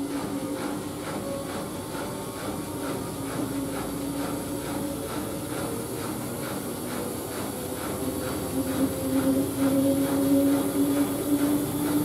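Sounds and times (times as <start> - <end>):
washing machine drum swishing: 0.0 - 12.0
washing machine motor hum: 0.0 - 12.0.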